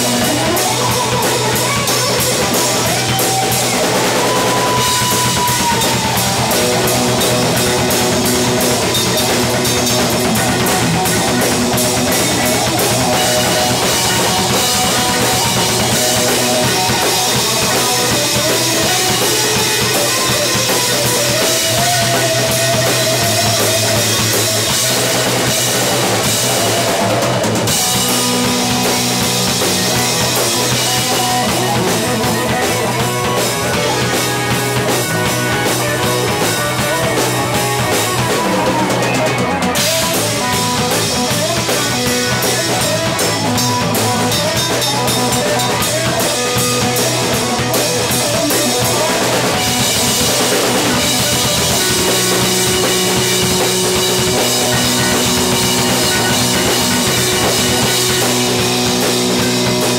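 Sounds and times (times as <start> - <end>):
bass guitar: 0.0 - 59.9
drum kit: 0.0 - 59.9
electric guitar: 0.0 - 59.9
keyboards: 0.0 - 59.9.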